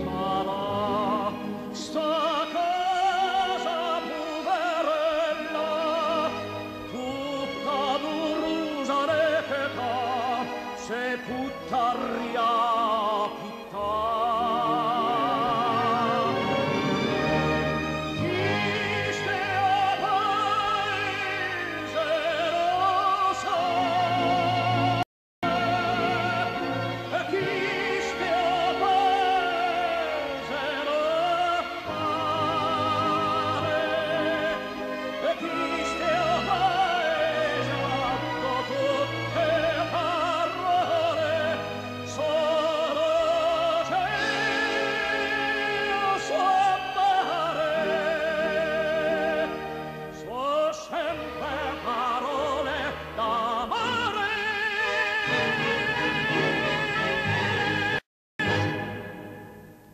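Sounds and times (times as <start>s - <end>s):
operatic singing with orchestra: 0.0s - 59.5s
instrumental accompaniment: 0.0s - 59.9s.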